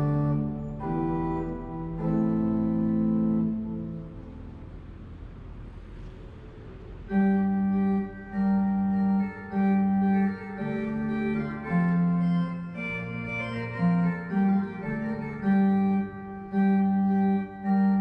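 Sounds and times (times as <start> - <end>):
slow organ melody: 0.0 - 5.8, 6.8 - 18.0.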